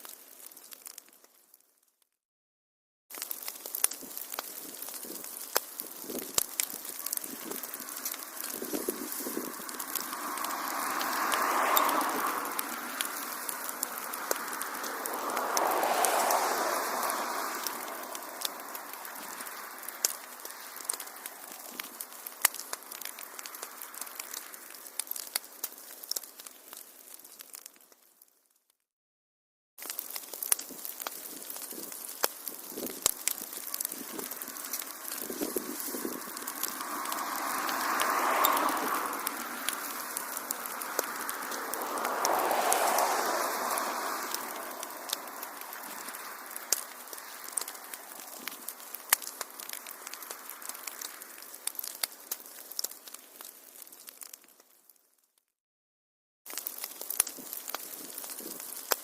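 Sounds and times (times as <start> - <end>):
crackles and pops of burning wood: 0.0 - 2.0, 3.1 - 28.7, 29.8 - 55.4, 56.5 - 59.0
rushing hiss of flames: 3.1 - 28.0, 29.8 - 54.7, 56.5 - 59.0.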